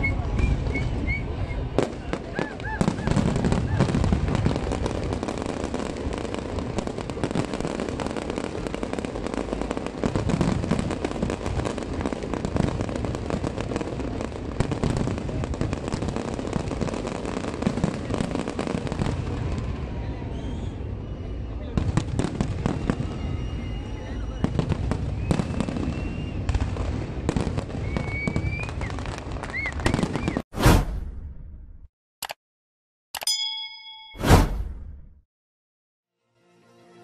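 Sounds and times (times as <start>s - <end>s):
fireworks crackling and popping: 0.0s - 20.9s, 21.7s - 31.0s
deep fireworks booms: 0.0s - 31.9s.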